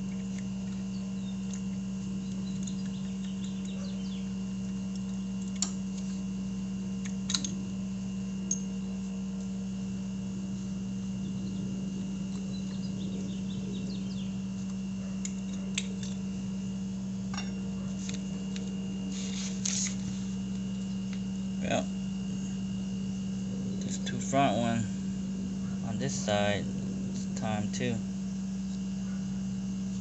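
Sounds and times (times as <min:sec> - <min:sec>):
faint high whine: 0:00.0 - 0:30.0
low hum: 0:00.0 - 0:30.0.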